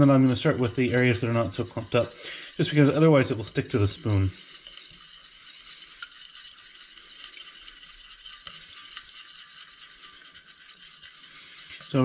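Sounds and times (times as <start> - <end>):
metal spoon stirring in a pot: 0.0 - 12.0.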